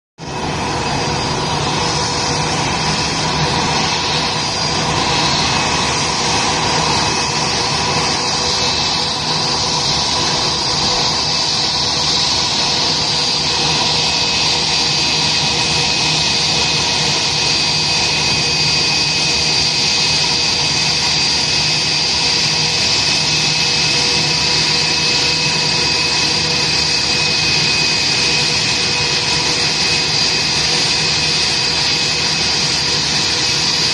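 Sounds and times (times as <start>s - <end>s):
jet engines idling whine: 0.2s - 33.9s.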